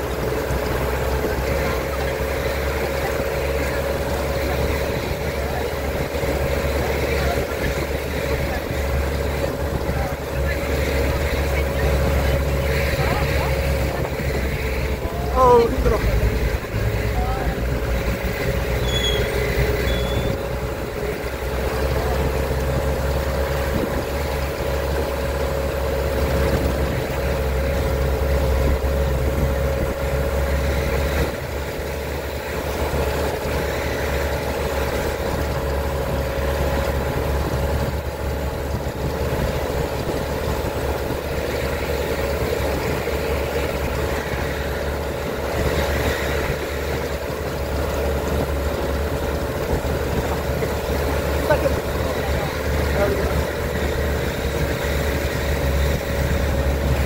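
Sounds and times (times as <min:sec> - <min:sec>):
jeep engine running: 0:00.0 - 0:57.0.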